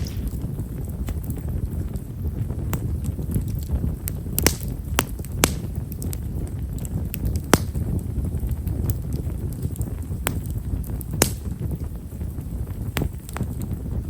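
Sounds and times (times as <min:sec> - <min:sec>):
bonfire crackling: 0:00.0 - 0:14.0
sharp fire pops: 0:00.0 - 0:14.0.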